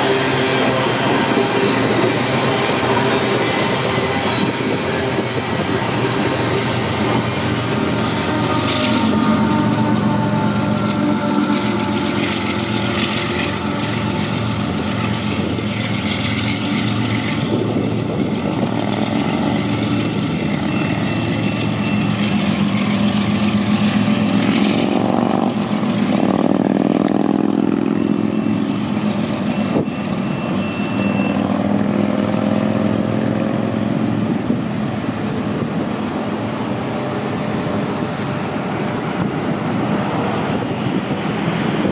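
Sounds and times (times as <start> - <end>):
droning howl of train: 0.0 - 41.9
freight cars rumbling: 0.0 - 41.9.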